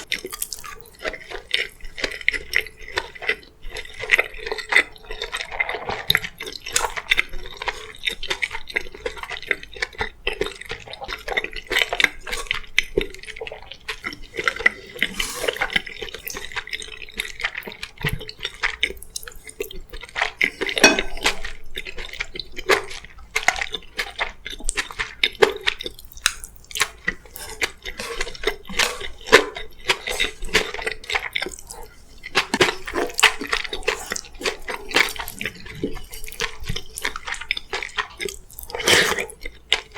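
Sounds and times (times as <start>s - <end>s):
wet mouth clicks and chewing: 0.0s - 39.9s.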